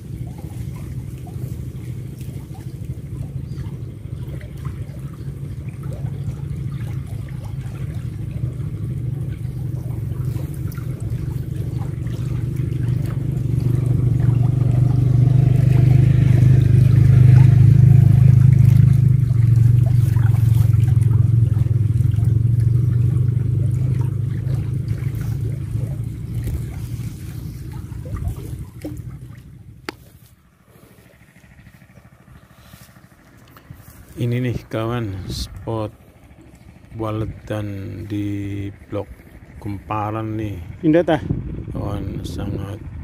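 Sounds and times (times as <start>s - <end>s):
motor engine droning: 0.0s - 43.0s.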